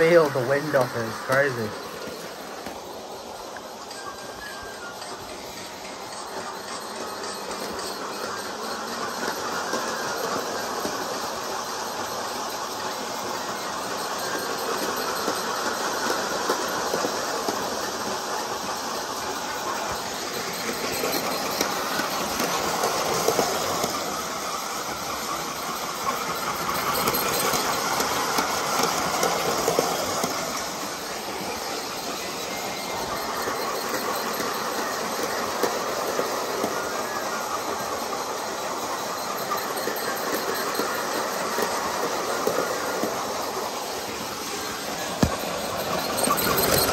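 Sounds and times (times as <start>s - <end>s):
model train whirring: 0.0s - 46.9s
train cars rattling: 0.0s - 46.9s
wheels clicking on track: 0.0s - 46.9s.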